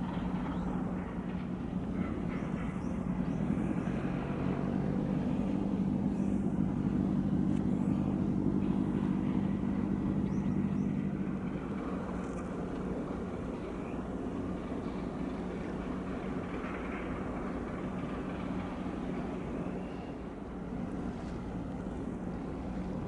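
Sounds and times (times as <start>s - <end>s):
ship engines droning: 0.0s - 23.0s.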